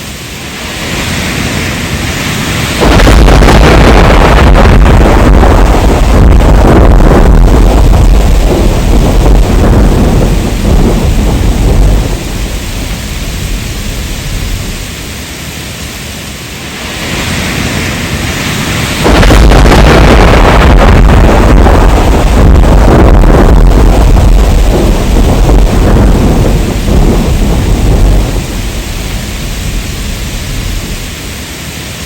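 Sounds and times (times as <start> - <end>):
rolling thunder: 0.0 - 15.2, 16.7 - 32.0
heavy rain: 0.0 - 32.0.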